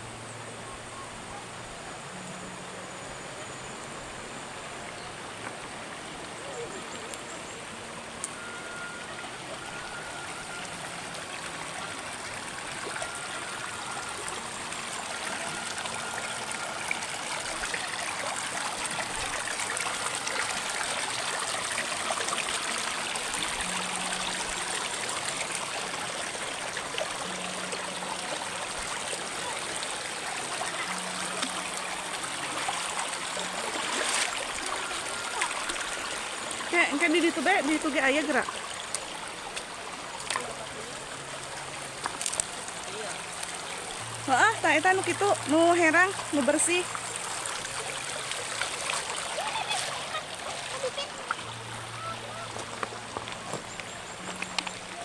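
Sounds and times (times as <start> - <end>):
river trickling over stones: 0.0 - 55.0.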